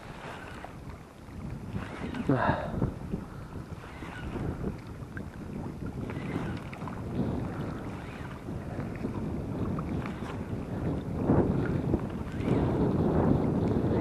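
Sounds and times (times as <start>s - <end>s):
gusty wind on microphone: 0.0s - 14.0s.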